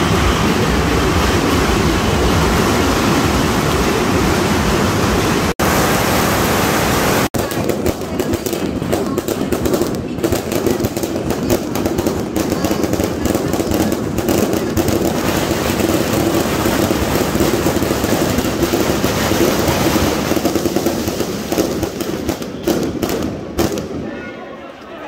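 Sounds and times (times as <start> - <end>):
firecrackers crackling: 0.0 - 6.4, 7.0 - 24.3.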